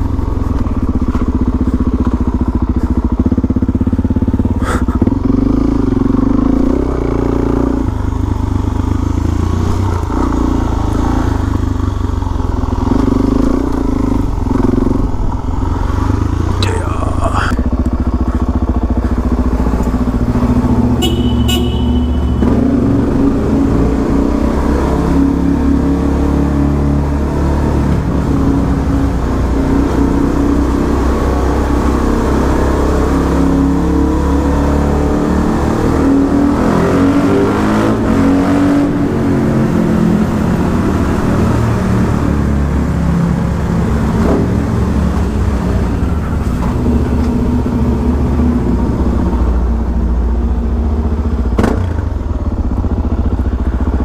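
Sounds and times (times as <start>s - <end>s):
motorcycle engine in tunnel: 0.0s - 54.0s.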